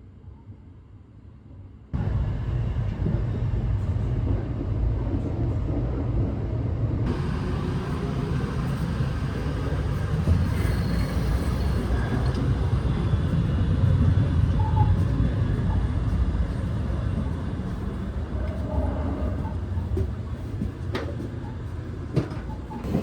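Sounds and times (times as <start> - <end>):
train rumble inside carriage: 0.0 - 23.0.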